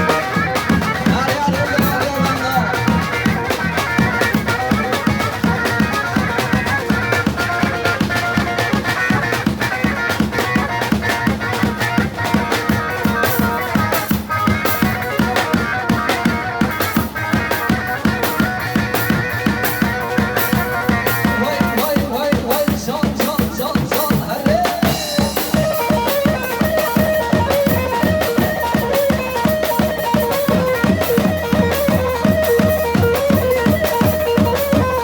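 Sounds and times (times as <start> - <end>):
drum kit steady beat: 0.0 - 35.0
ornamented folk melody: 0.0 - 35.0.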